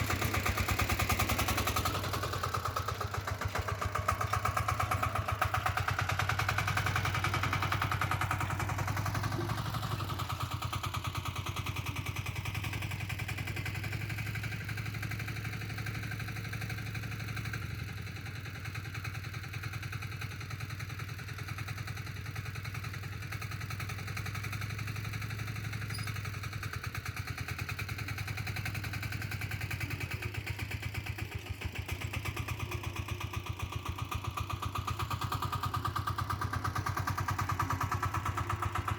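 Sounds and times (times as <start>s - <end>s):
diesel tractor engine running: 0.0s - 19.6s, 22.8s - 38.9s.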